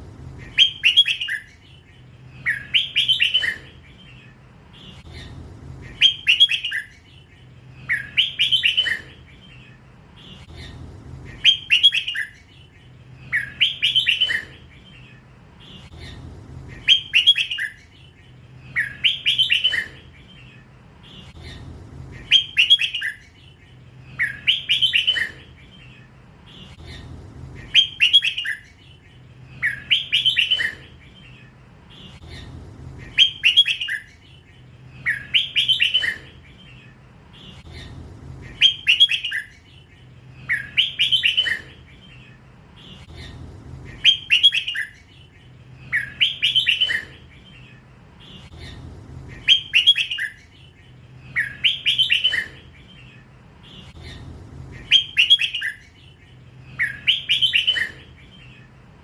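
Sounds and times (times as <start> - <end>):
bulbul singing quick phrases: 0.0 - 58.9.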